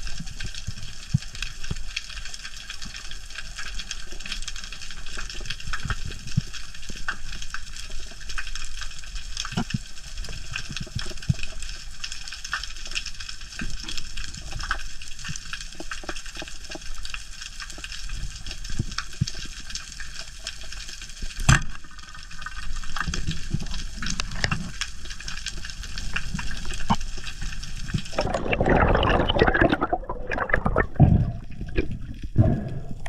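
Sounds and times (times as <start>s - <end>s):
underwater crackle of clicks: 0.0s - 32.3s.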